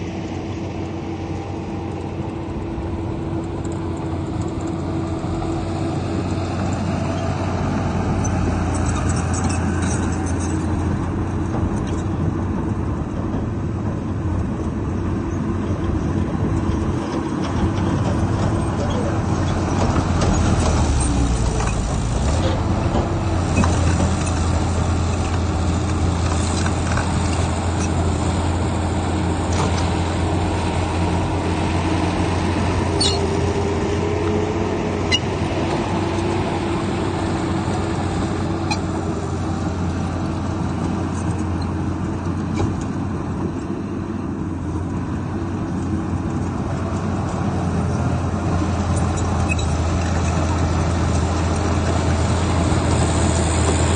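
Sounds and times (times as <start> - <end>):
diesel earthmoving machinery running: 0.0 - 53.9.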